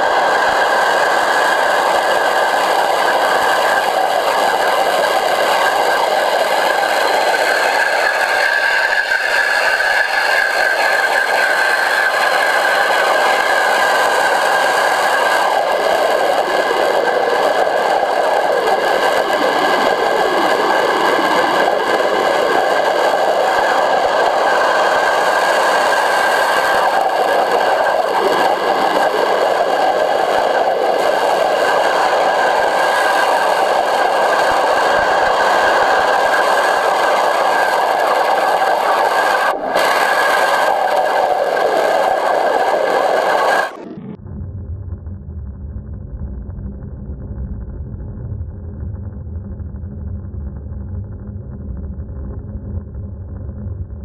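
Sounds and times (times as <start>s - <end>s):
water jetting underwater: 0.0s - 44.4s
high whine: 0.0s - 54.0s.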